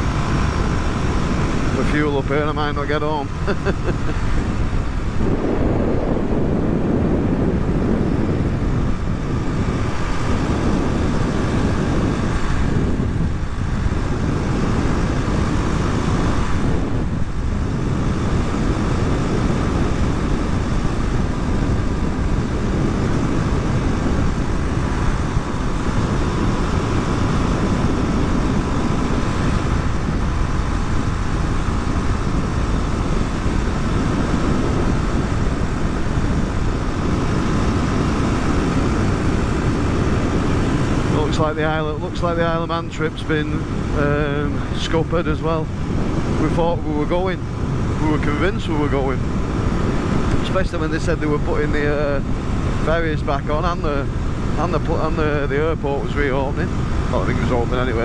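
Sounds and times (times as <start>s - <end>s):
motorcycle engine: 0.0s - 46.8s
wind rush: 0.0s - 58.0s.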